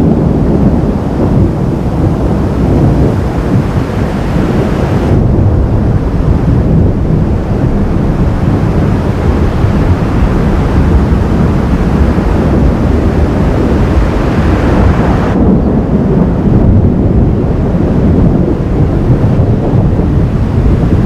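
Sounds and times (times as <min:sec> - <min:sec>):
rolling thunder: 0:00.0 - 0:21.0
wind buffeting microphone: 0:00.0 - 0:21.0.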